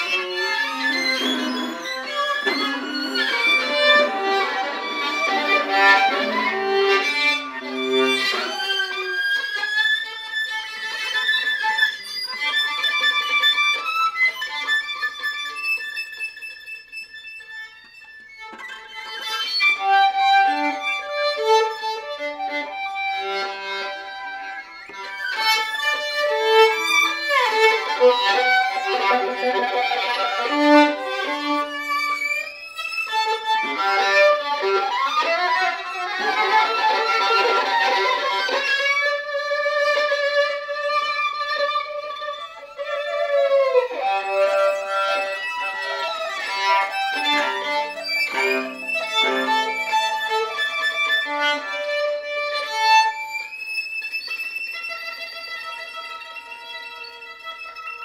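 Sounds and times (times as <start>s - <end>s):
bowed violin and viola: 0.0s - 58.0s.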